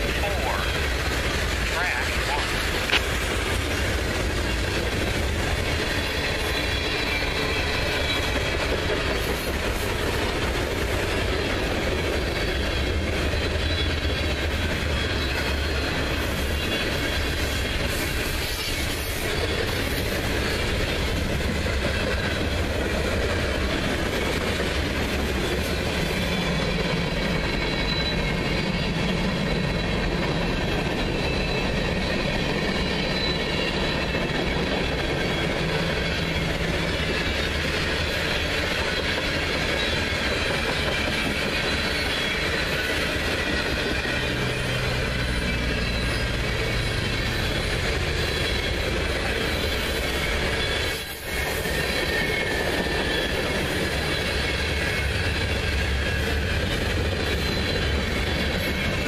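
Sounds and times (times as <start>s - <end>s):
freight cars rumbling and rattling: 0.0s - 59.0s.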